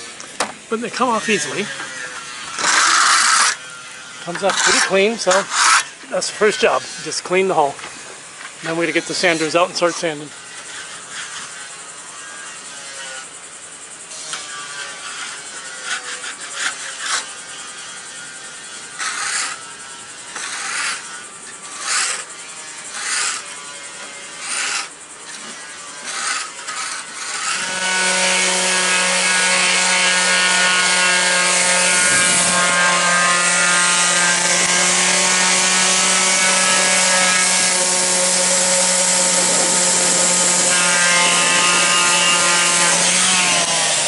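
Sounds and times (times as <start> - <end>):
orbital sander humming whine: 0.0 - 44.0.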